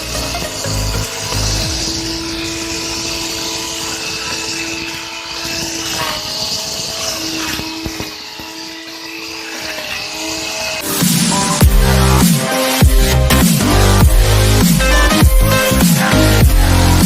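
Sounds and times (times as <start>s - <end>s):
grass cutter motor whine: 0.0s - 17.0s.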